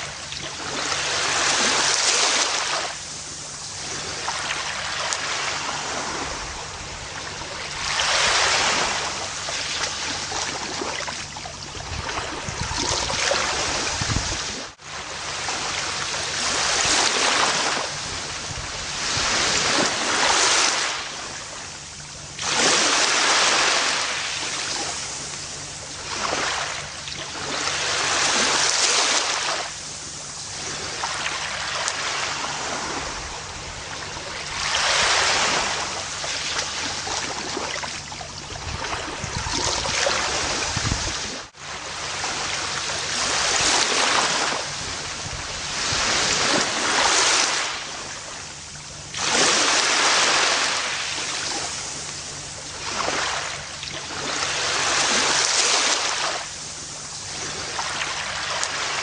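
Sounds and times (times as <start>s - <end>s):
ocean waves washing onto beach: 0.0s - 59.0s.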